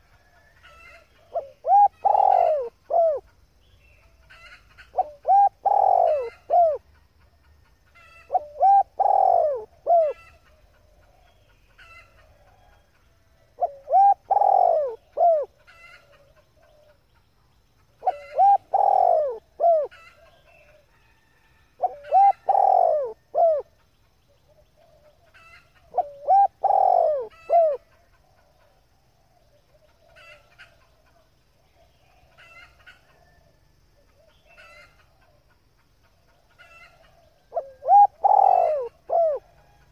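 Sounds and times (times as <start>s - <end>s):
dove cooing: 0.0s - 3.3s, 4.3s - 6.9s, 7.9s - 12.7s, 13.5s - 17.0s, 18.0s - 20.9s, 21.8s - 23.8s, 24.4s - 35.5s, 36.3s - 39.9s.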